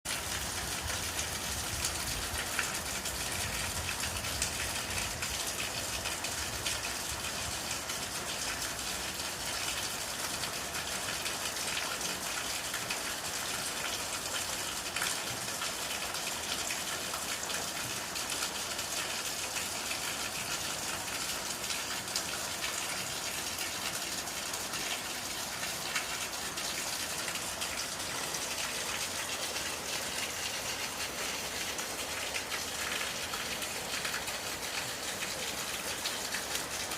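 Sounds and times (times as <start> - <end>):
rushing water: 0.1 - 36.9.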